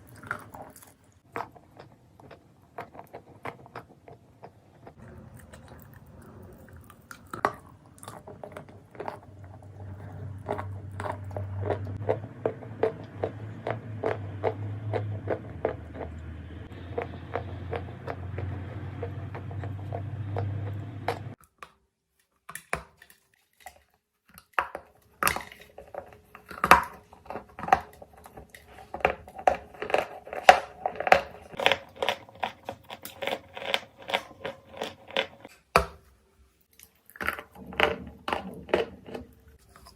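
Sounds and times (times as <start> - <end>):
clay being chewed with crunches: 0.0 - 21.5, 22.6 - 35.7.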